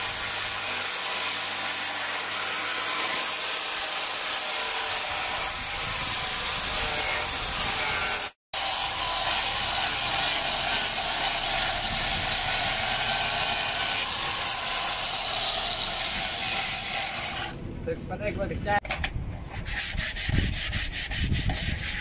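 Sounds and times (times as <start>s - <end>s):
angle grinder sanding wood: 0.0s - 17.6s, 19.6s - 22.0s.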